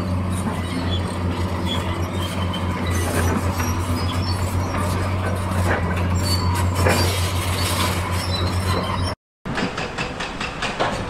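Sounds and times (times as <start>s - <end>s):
diesel engines humming: 0.0s - 9.2s.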